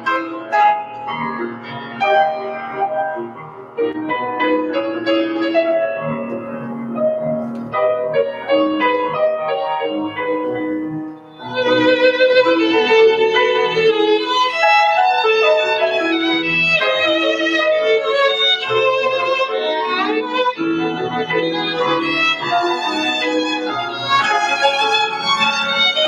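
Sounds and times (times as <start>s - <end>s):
piano: 0.0s - 26.0s
violin melody with vibrato: 0.0s - 26.0s.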